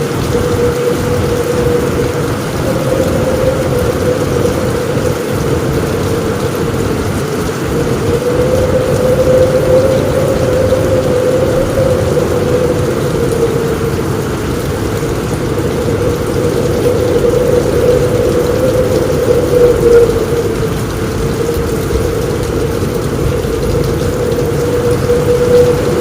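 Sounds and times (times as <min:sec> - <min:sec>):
heavy rain on a roof: 0:00.0 - 0:26.0.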